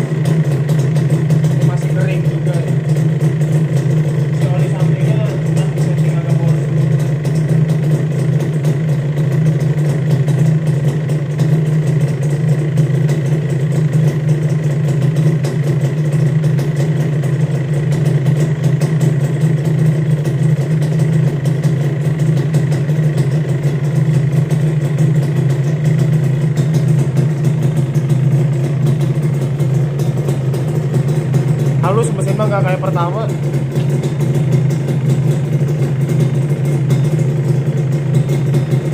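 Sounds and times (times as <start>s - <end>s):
two-stroke engine idling: 0.0s - 38.9s.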